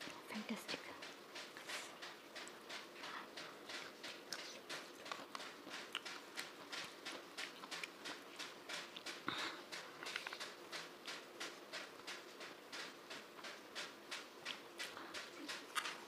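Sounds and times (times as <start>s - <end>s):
close chewing of food: 0.0s - 16.0s.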